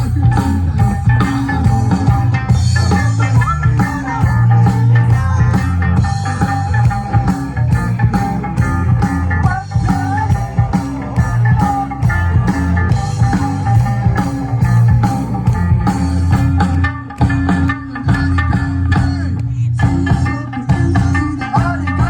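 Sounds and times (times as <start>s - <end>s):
band playing upbeat instrumental: 0.0s - 22.0s.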